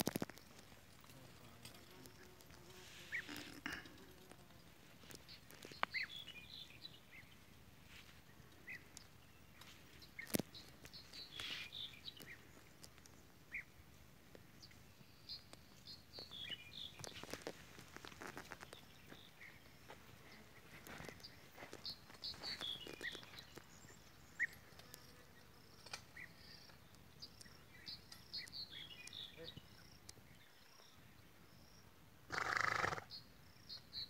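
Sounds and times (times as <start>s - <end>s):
small birds chirping: 0.0s - 32.0s, 32.8s - 34.0s.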